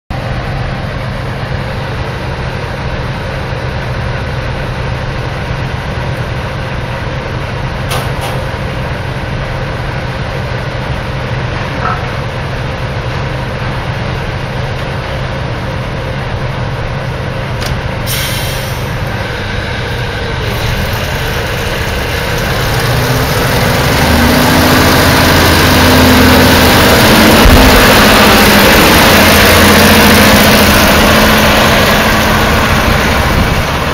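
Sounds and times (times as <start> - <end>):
diesel locomotive engine running: 0.1 - 33.9.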